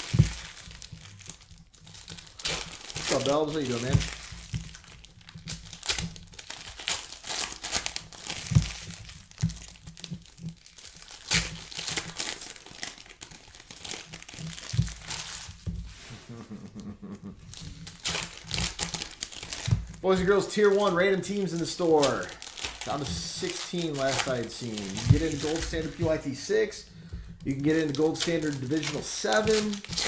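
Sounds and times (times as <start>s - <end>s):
plastic wrapping crinkling: 0.0s - 16.2s, 17.4s - 30.0s.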